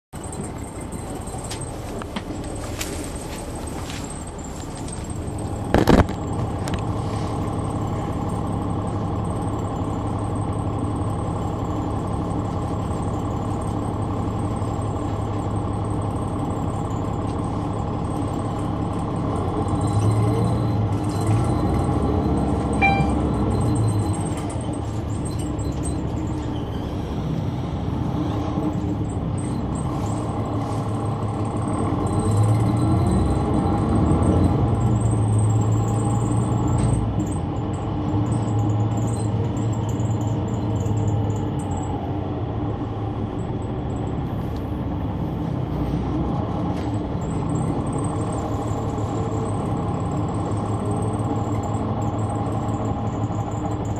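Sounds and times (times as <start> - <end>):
bus diesel engine running: 0.1 - 53.9.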